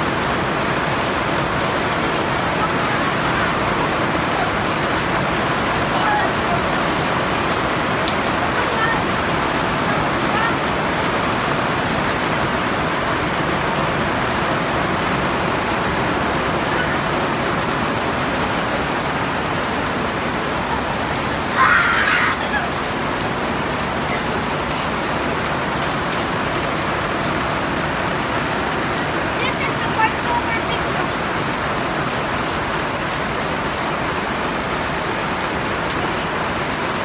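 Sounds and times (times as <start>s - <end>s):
rain splashing on concrete: 0.0s - 37.0s.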